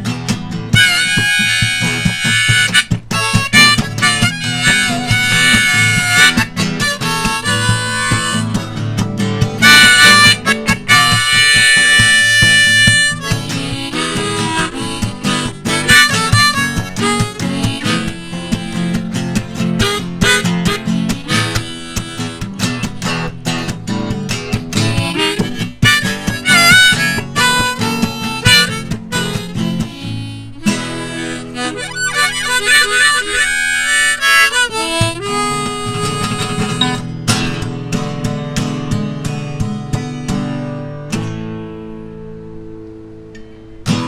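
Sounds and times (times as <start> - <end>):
strummed acoustic guitar: 0.0 - 44.0
harmonica solo: 0.6 - 37.7.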